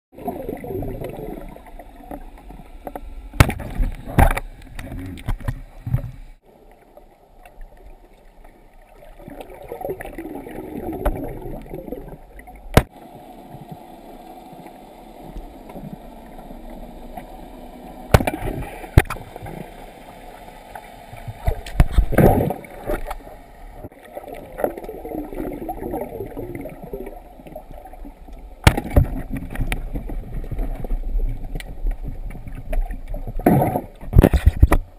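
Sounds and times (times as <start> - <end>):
muffled underwater rushing: 0.1 - 34.9.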